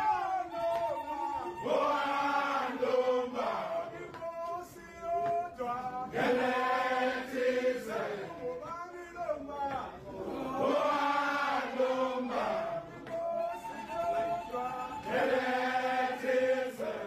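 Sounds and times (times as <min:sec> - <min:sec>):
men chanting: 0:00.0 - 0:17.0.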